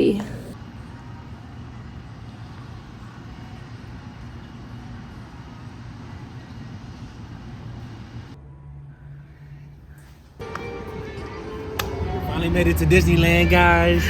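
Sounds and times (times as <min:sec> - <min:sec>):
vehicle rumble and road noise: 0:00.0 - 0:14.0.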